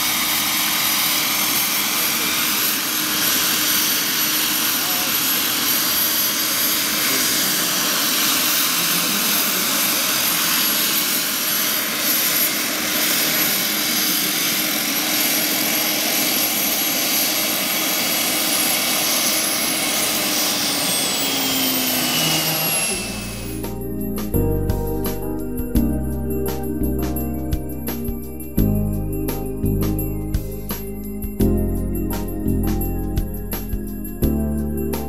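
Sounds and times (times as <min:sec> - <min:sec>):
helicopter rotor noise: 0:00.0 - 0:35.0
model helicopter engine whine: 0:00.0 - 0:35.0.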